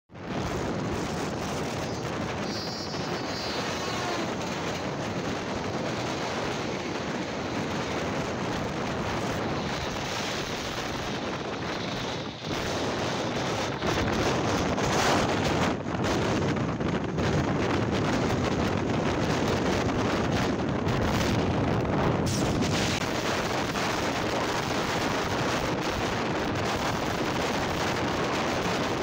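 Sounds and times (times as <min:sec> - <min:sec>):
wind buffeting microphone: 0:00.1 - 0:29.0
train wheels on rail: 0:00.3 - 0:29.0.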